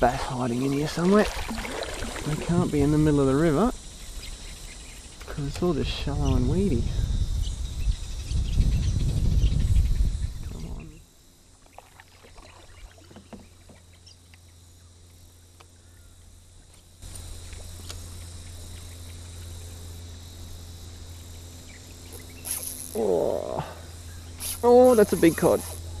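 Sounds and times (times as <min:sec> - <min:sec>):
faint insect drone: 0:00.0 - 0:26.0
low steady hum: 0:00.0 - 0:26.0.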